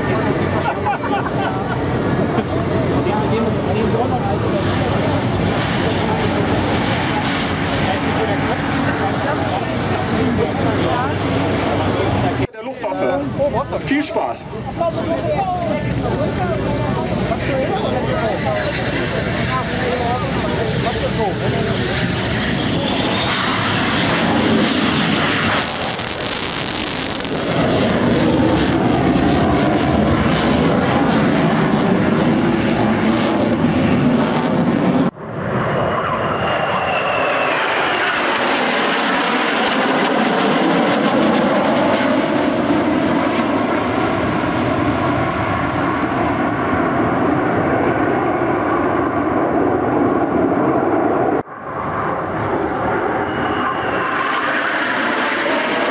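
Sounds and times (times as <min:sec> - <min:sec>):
jet taking off: 0:00.0 - 0:55.9
jets passing overhead: 0:00.0 - 0:55.9.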